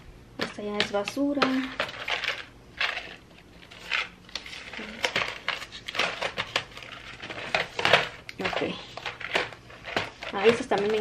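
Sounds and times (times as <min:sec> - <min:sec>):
plastic items clicking and clattering: 0:00.4 - 0:11.0
packaging rustling: 0:01.4 - 0:11.0.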